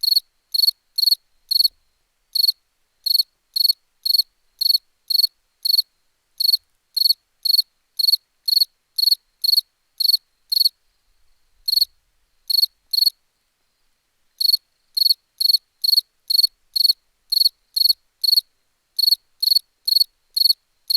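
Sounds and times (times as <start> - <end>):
cricket chirping: 0.0 - 10.8, 11.6 - 13.2, 14.4 - 20.9.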